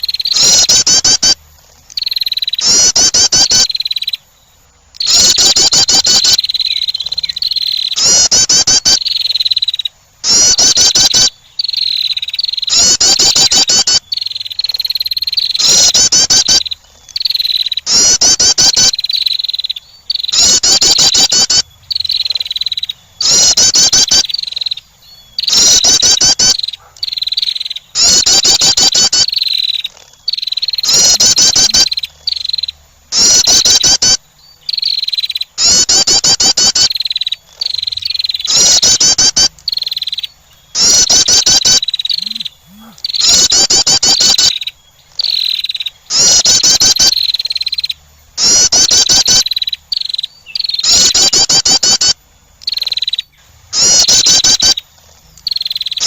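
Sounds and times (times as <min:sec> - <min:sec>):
wren trilling call: 0:00.0 - 0:56.0.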